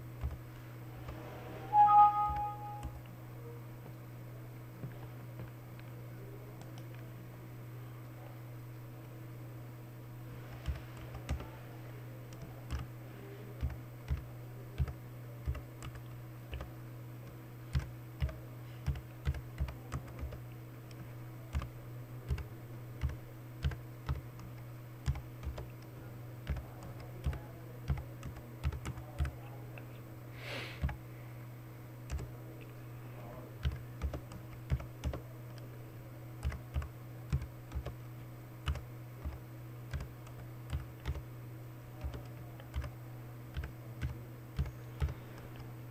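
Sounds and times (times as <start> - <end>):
low electrical hum: 0.0 - 45.9.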